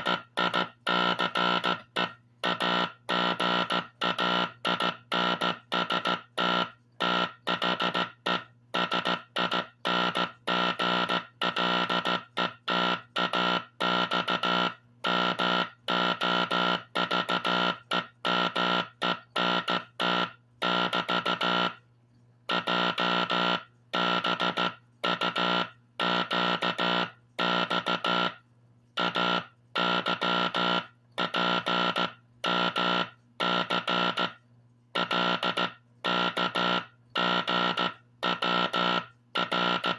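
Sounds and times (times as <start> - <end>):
morse code buzzy tone: 0.0 - 21.8, 22.5 - 28.4, 29.0 - 39.9
faint steady hum: 0.0 - 39.9.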